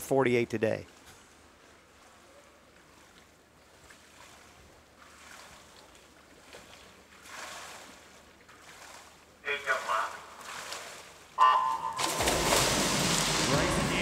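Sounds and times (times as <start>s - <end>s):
faint hiss-like pool ambience: 0.0s - 14.0s.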